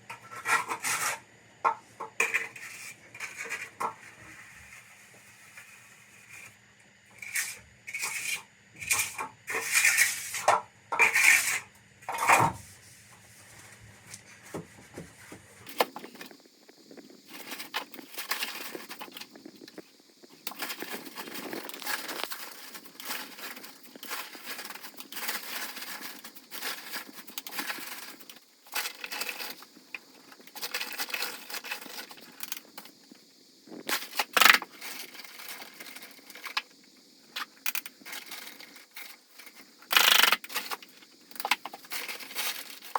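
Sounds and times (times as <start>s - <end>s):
scraping and crunching: 7.2s - 42.9s.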